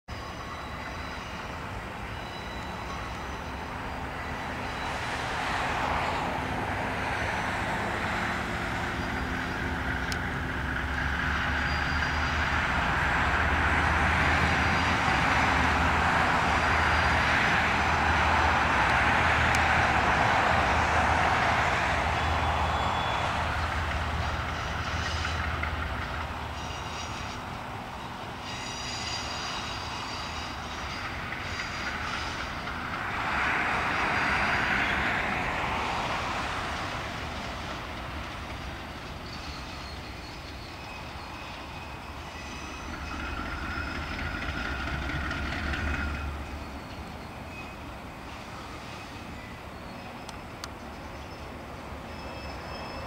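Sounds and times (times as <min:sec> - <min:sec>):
diesel locomotive engine rumble: 0:00.1 - 0:53.0
wheels squealing on rails: 0:00.1 - 0:53.0.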